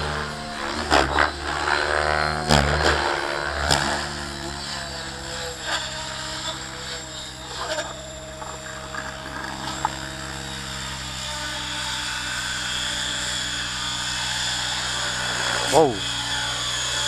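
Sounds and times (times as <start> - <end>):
model helicopter rotor whirring: 0.0 - 17.0.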